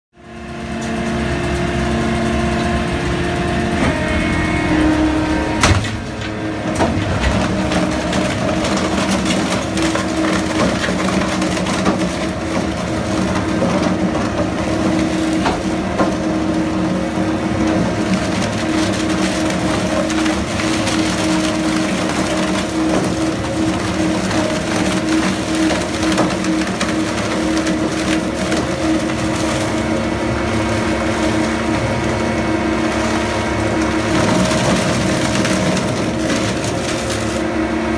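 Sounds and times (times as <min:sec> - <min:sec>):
steady machine hum: 0:00.2 - 0:37.9
paper shredder grinding paper: 0:00.3 - 0:37.9.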